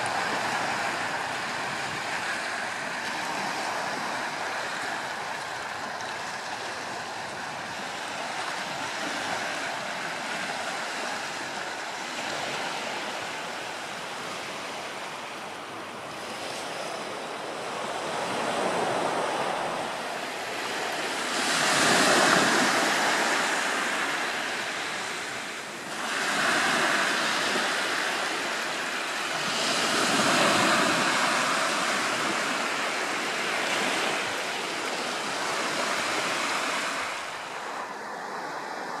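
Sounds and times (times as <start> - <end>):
sea waves washing over rocks: 0.0 - 39.0.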